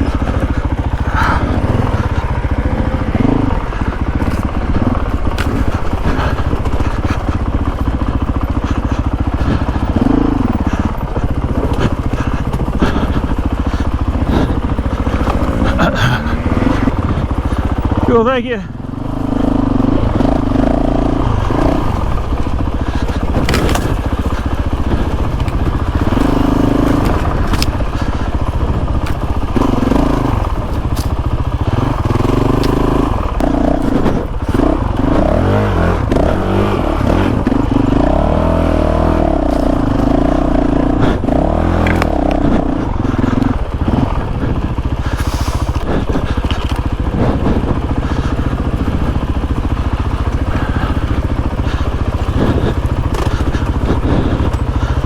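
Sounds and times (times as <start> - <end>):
stones clattering against bike: 0.0 - 18.1, 21.6 - 35.2, 41.0 - 55.0
dirt bike engine revving: 0.0 - 55.0.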